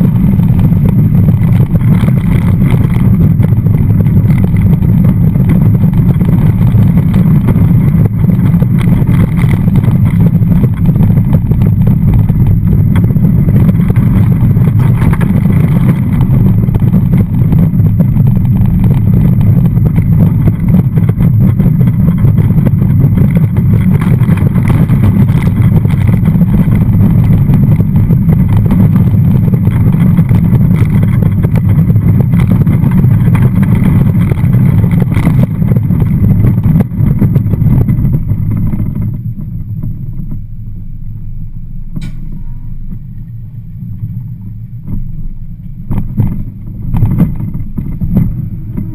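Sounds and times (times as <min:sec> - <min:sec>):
roller coaster wheels rumbling on rails: 0:00.0 - 0:48.9
wind buffeting microphone: 0:00.0 - 0:48.9.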